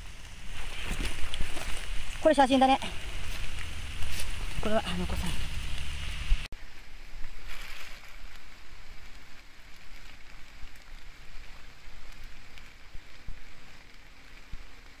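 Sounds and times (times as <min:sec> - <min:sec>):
rain falling on wet ground: 0:00.0 - 0:15.0.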